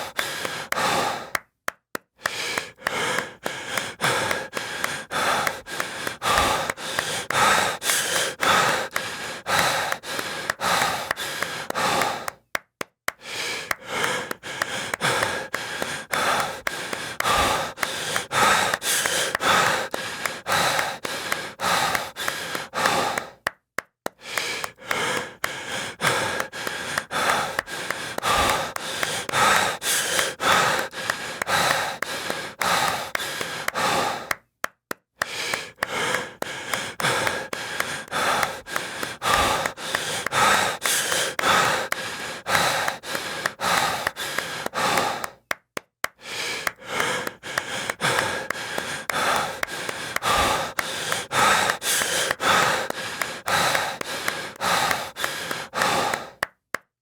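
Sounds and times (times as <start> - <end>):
heavy breathing and gasping: 0.0 - 1.5, 2.2 - 34.5, 35.2 - 56.6
quick claps: 0.0 - 57.0.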